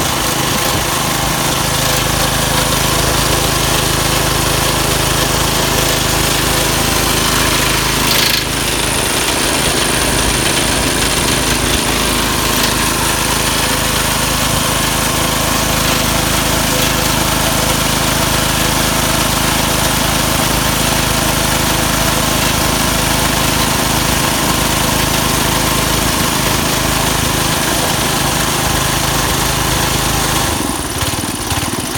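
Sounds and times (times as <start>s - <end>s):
air compressor engine running: 0.0s - 31.9s.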